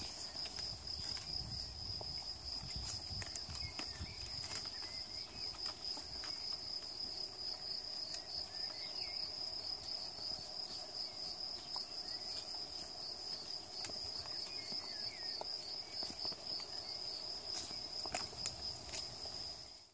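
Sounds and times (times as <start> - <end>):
goats browsing on twigs: 0.0 - 9.0, 11.5 - 19.5
insects trilling: 0.0 - 19.9.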